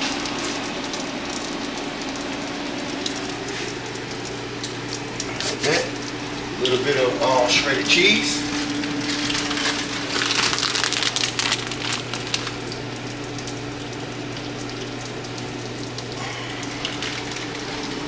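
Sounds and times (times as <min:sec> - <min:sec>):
food sizzling in frying pan: 0:00.0 - 0:18.0
steady low hum: 0:02.1 - 0:18.0.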